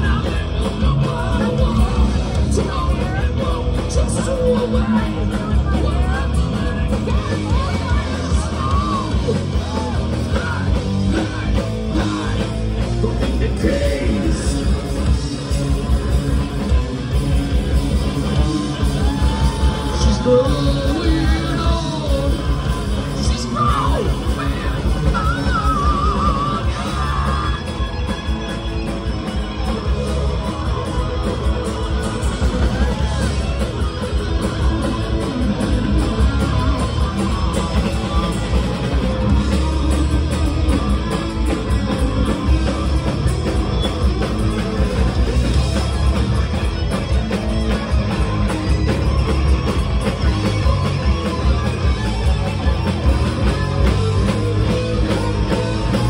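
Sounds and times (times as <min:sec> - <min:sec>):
distorted electric guitars: 0:00.0 - 0:56.0
live heavy metal band: 0:00.0 - 0:56.0
rapid drums: 0:00.0 - 0:56.0.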